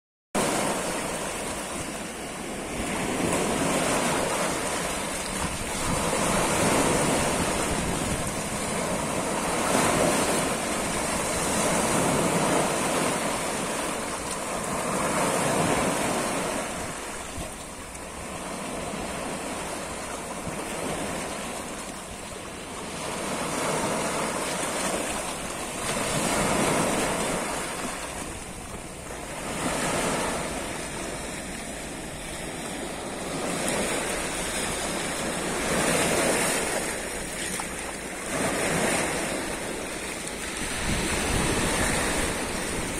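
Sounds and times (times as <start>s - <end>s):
waves washing over pebbly shore: 0.4s - 42.9s.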